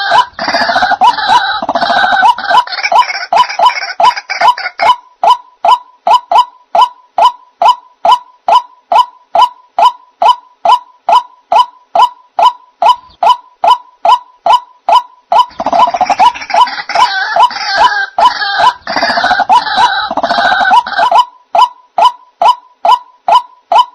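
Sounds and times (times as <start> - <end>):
chorus of croaking bird calls: 0.0 - 23.9
waterhen call notes: 0.0 - 23.9.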